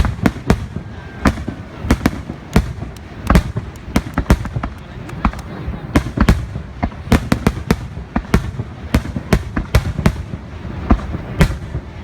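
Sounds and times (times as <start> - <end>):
continuous low rumble: 0.0 - 12.0
fireworks bangs: 0.0 - 12.0.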